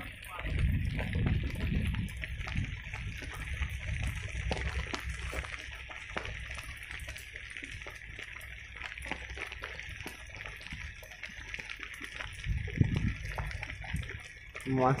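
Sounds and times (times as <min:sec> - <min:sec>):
steady rain: 0:00.0 - 0:15.0
wind rumble on microphone: 0:00.0 - 0:15.0.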